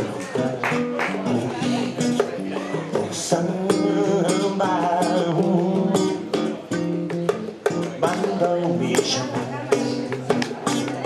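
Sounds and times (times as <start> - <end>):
acoustic guitar strumming: 0.0 - 11.0
man singing: 0.0 - 11.0.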